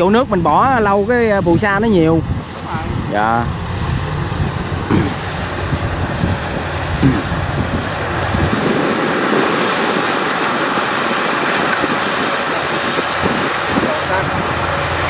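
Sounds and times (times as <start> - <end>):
combine harvester running: 0.0 - 15.0
wind rumbling on microphone: 0.0 - 15.0.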